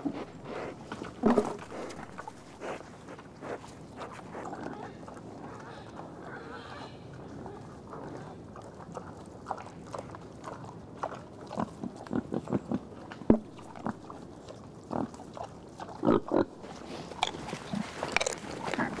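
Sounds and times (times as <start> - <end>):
wild boars grunting: 0.0 - 14.1, 14.9 - 19.0
boars chewing and crunching: 0.0 - 19.0.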